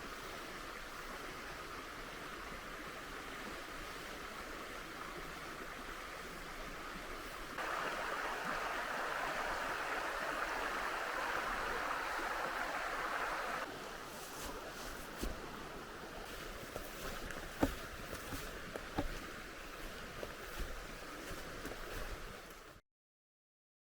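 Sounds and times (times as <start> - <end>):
river water flowing: 0.0 - 22.8.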